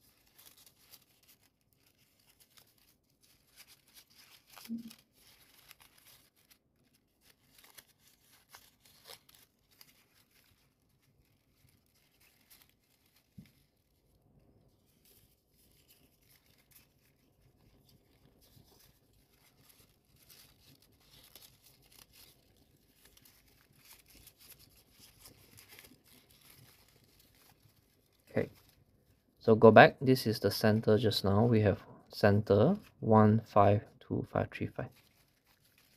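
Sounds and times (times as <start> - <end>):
paper rustling and crinkling: 0.0 - 35.9.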